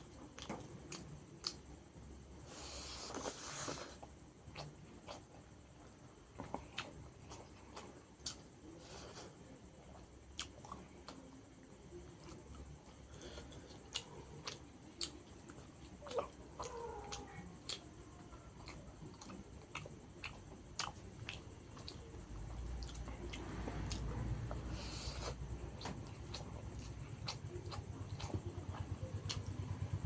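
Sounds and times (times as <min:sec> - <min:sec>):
person chewing with mouth clicks: 0:00.0 - 0:01.9, 0:02.5 - 0:05.5, 0:06.3 - 0:30.0.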